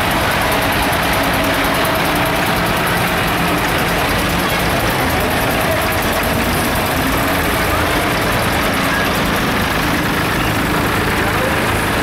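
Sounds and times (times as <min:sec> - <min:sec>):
tractor engines rumbling: 0:00.0 - 0:12.0.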